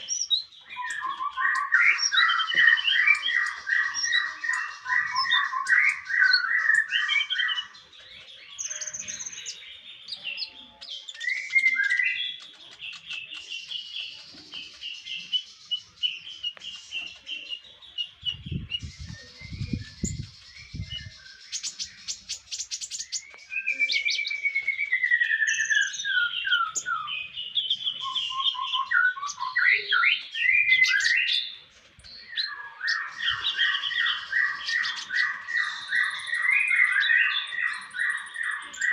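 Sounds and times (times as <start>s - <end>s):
songbird singing chirps and trills: 0.0s - 38.9s.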